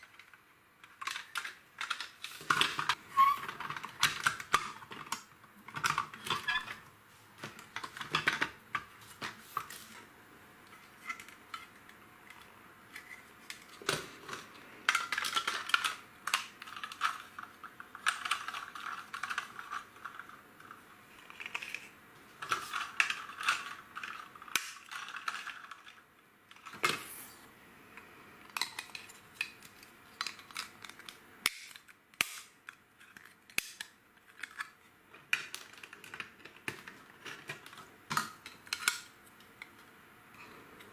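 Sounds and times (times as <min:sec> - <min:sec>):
plastic bricks clicking and rattling: 0:00.0 - 0:06.8, 0:07.4 - 0:09.3, 0:11.0 - 0:27.0, 0:28.5 - 0:39.9.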